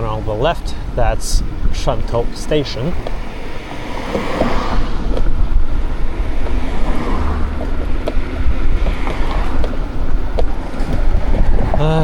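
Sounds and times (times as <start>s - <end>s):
deep rumble: 0.0s - 12.0s
wind buffeting microphone: 0.0s - 12.0s.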